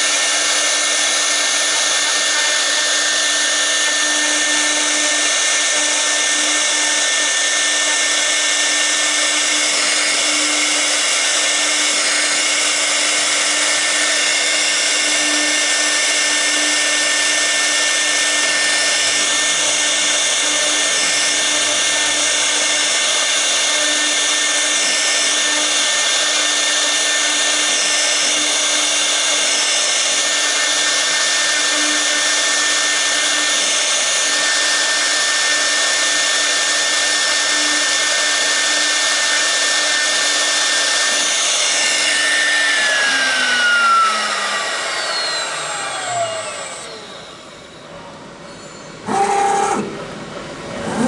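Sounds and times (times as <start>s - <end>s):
router spindle whining: 0.0s - 51.0s.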